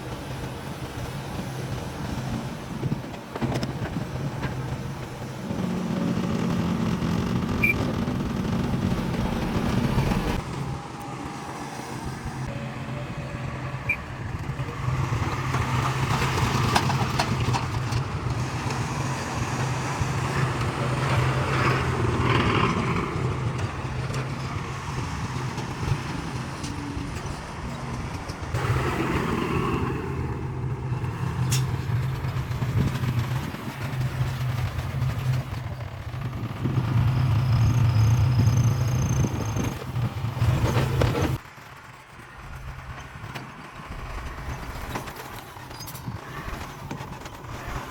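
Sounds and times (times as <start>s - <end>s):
heavy diesel engine drone: 0.0s - 47.9s.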